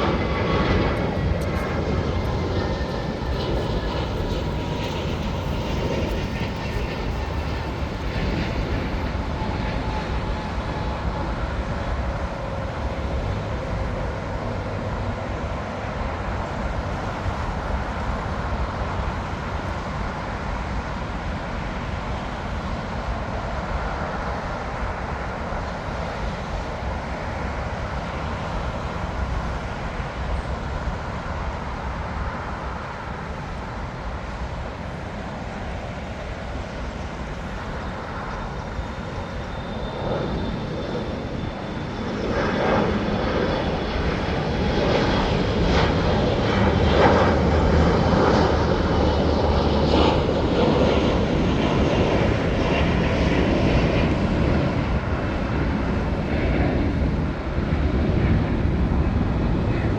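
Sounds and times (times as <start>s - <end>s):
jet engines rushing: 0.0s - 59.9s.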